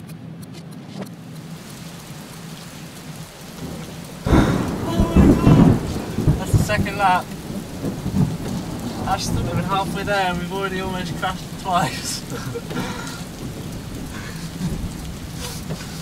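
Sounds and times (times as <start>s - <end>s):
rain on car: 1.1s - 16.0s
thunder rumbling: 1.7s - 16.0s.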